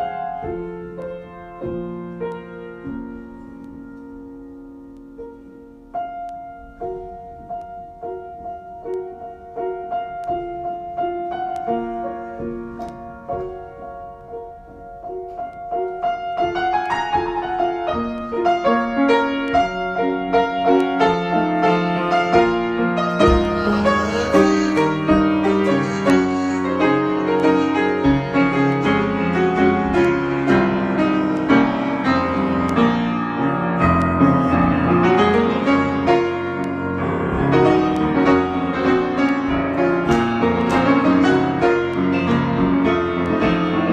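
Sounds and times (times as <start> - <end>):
piano improvisation: 0.0 - 43.9.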